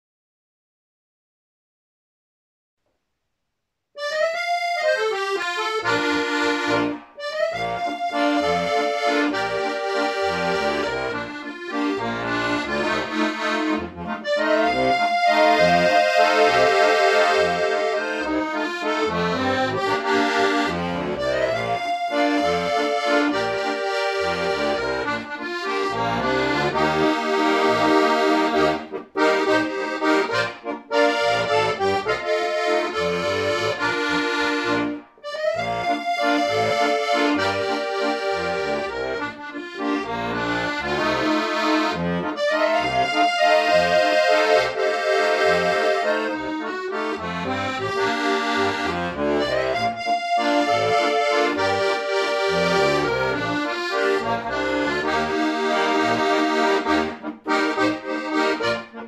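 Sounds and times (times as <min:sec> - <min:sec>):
accordion playing a melody: 0:04.0 - 0:59.0.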